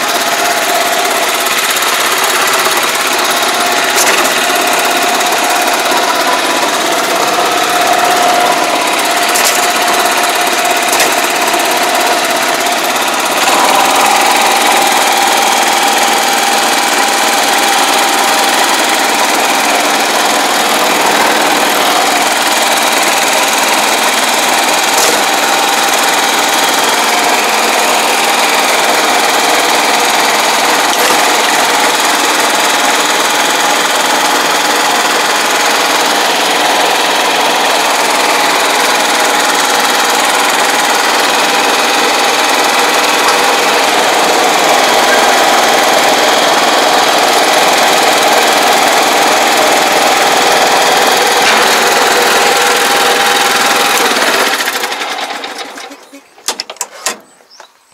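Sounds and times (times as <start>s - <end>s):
small engine running: 0.0s - 56.3s.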